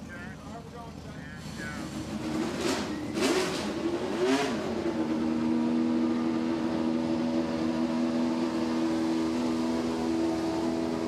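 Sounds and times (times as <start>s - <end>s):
car engine at low revs: 0.0s - 11.0s.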